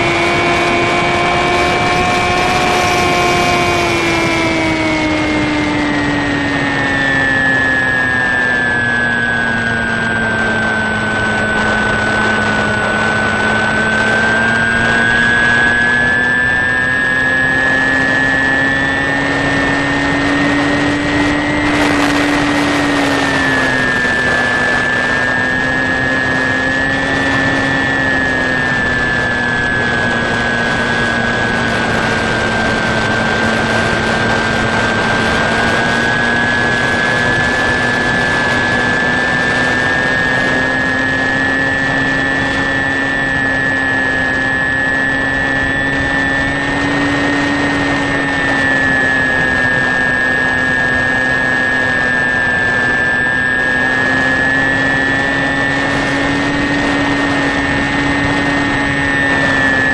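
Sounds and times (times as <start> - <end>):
electric motor high whine: 0.0 - 59.9
propeller tone: 0.0 - 59.9
wind rush: 0.0 - 59.9.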